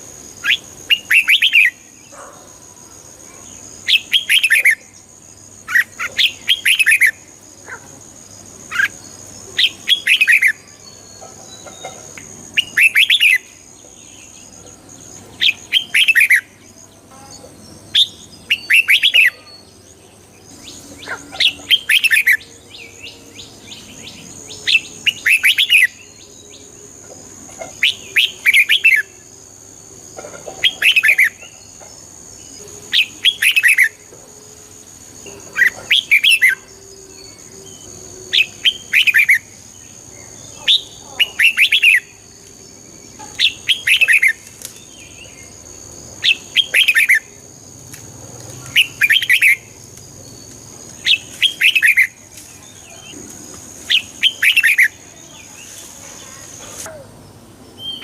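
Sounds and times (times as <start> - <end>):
bird singing warbled phrases: 0.0 - 2.4, 3.3 - 8.0, 8.6 - 26.7, 27.6 - 29.3, 30.6 - 34.1, 35.5 - 47.4, 48.5 - 53.2, 53.9 - 58.0.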